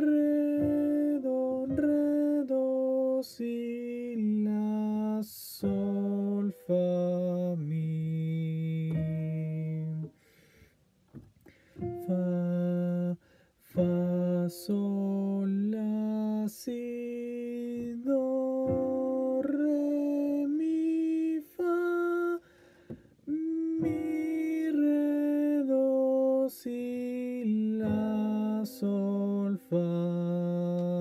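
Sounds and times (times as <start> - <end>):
man singing held notes: 0.0 - 10.2, 11.8 - 22.6, 23.2 - 31.0.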